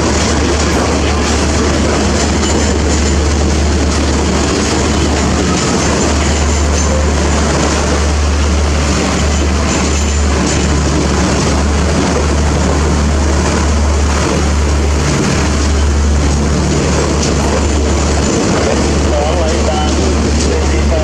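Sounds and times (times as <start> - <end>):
train coaches rolling past: 0.0 - 21.0.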